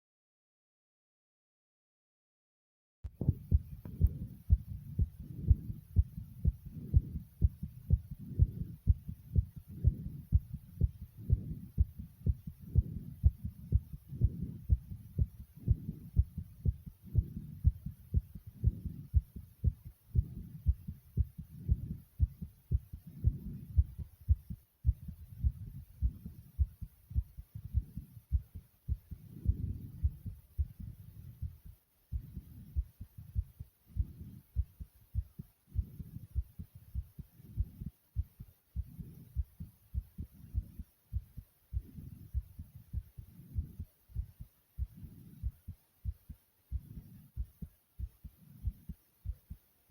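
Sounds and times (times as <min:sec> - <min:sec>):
fast heartbeat thumps: 0:03.1 - 0:49.9.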